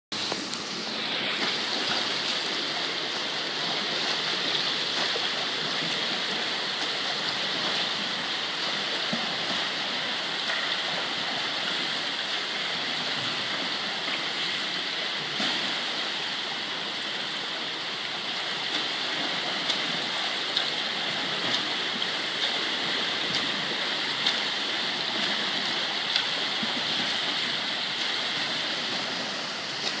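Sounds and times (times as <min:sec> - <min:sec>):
swimmer splashing: 0:00.1 - 0:30.0
water rushing in a pool: 0:00.1 - 0:30.0.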